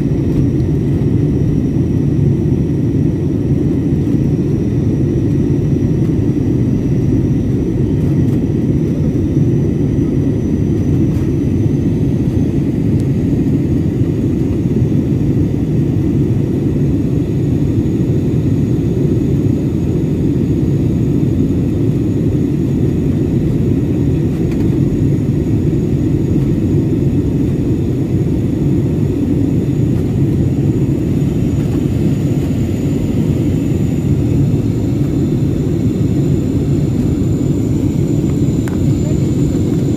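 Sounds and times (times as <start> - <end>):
faint high whine: 0.0 - 39.9
jet engine roar in cabin: 0.0 - 39.9.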